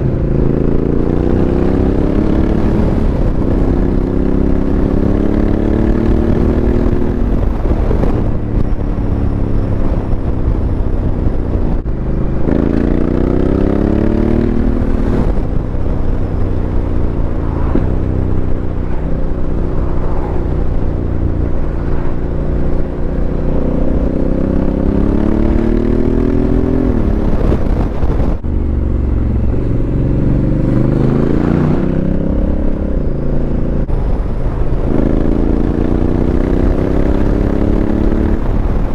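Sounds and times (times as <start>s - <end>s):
motorcycle engine accelerating: 0.0s - 38.9s
wind rumble: 0.0s - 38.9s.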